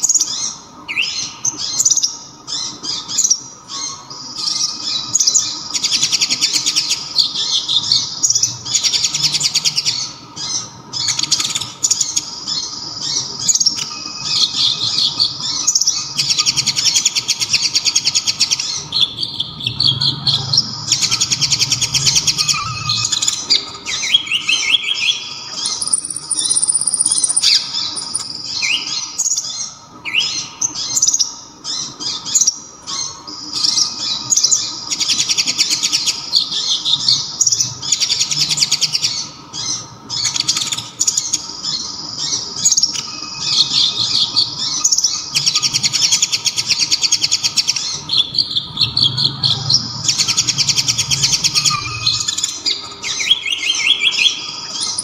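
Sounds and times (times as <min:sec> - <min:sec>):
sunbird singing rapid trills: 0:00.0 - 0:55.0.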